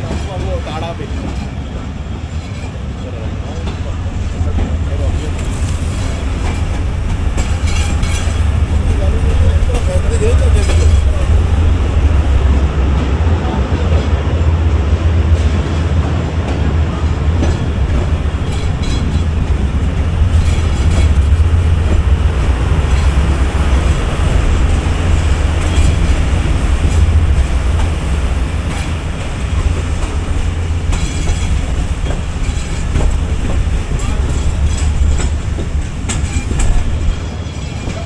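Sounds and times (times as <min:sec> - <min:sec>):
wheels clattering over rail joints: 0:00.0 - 0:14.2, 0:15.3 - 0:38.0
train low rumble: 0:00.0 - 0:38.0.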